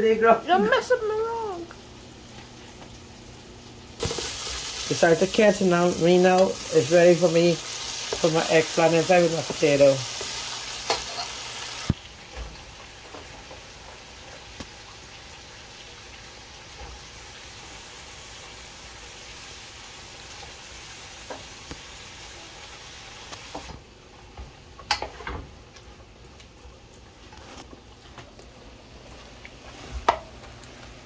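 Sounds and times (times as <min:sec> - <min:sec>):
spices sizzling in a pot: 0:00.0 - 0:31.0.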